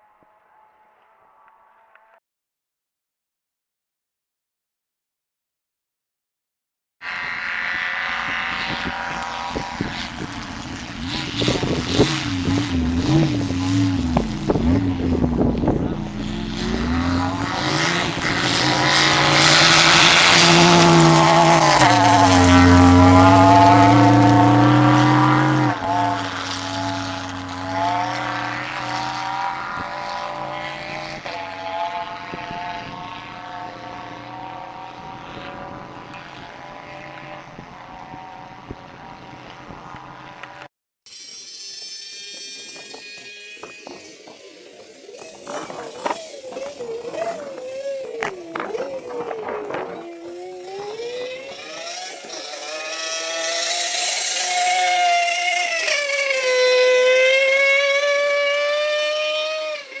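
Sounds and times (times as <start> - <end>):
race car engine revving: 7.0 - 40.7, 43.6 - 60.0.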